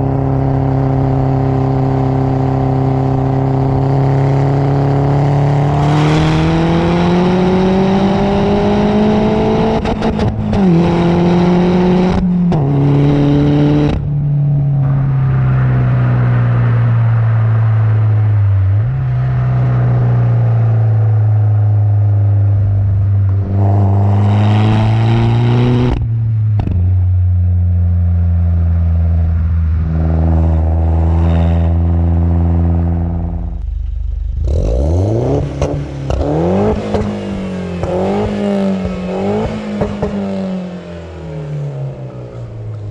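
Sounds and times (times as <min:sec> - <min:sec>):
car engine accelerating through gears: 0:00.0 - 0:42.9.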